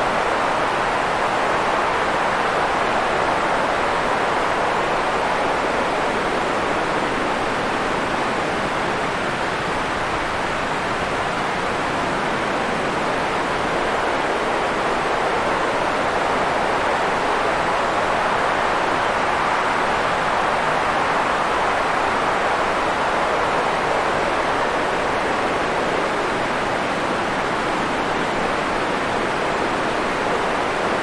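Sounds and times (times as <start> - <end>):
steady white noise hiss: 0.0 - 31.0.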